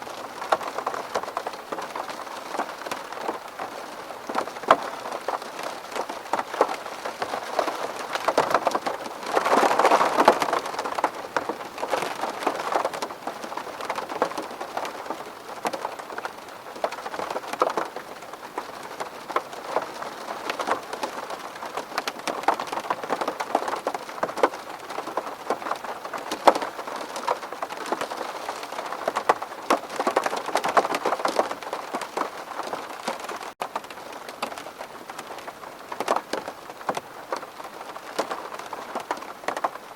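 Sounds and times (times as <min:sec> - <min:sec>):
rain pattering on window: 0:00.0 - 0:39.9.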